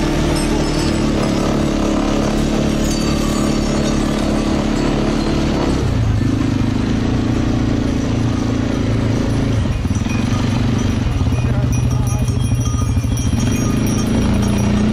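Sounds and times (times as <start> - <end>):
quad bike engine running: 0.0 - 14.9.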